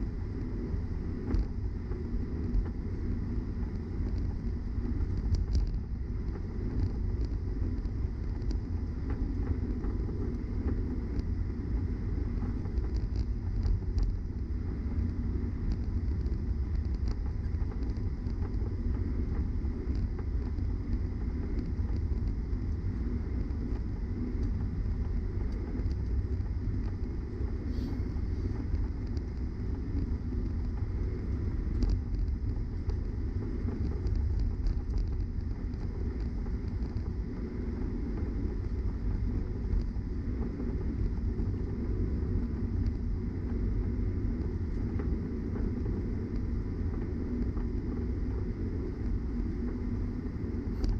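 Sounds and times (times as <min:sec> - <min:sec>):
aircraft engine rumble: 0:00.0 - 0:50.9
faint ticks and rattles: 0:00.0 - 0:50.9.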